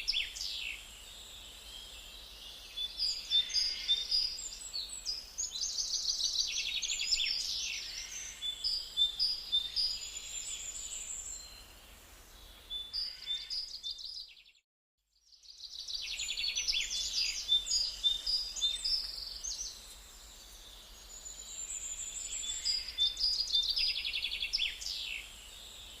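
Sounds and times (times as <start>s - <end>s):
small birds chirping: 0.0s - 11.6s, 15.2s - 26.0s.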